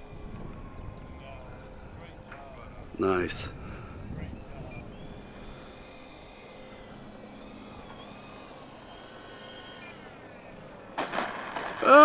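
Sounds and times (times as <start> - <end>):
model plane electric motors whining: 0.0 - 12.0.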